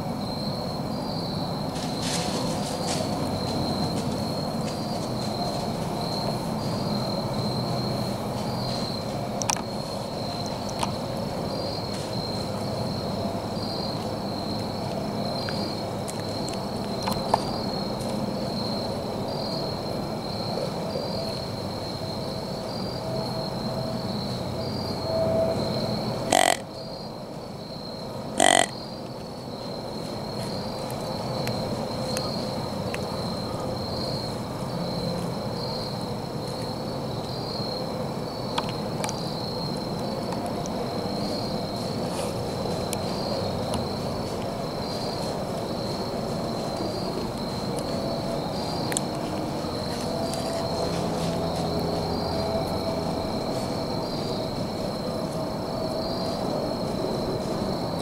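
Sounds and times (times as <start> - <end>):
insects trilling: 0.0 - 58.0
wind rustling in woods: 0.0 - 58.0.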